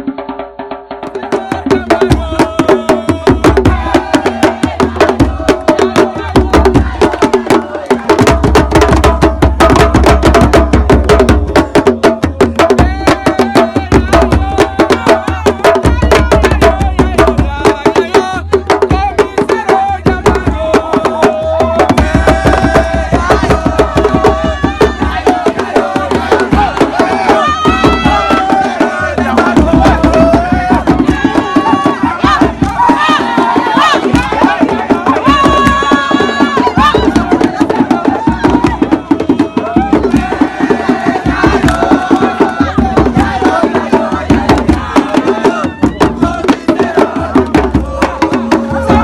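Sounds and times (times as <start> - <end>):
fast hand drum rhythm: 0.0 - 49.0
voices chanting: 1.2 - 9.5, 10.4 - 49.0.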